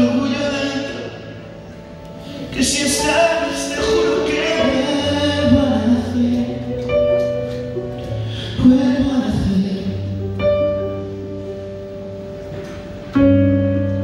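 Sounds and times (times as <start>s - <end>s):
held keyboard chords: 0.0s - 14.0s
steady bass: 0.0s - 14.0s.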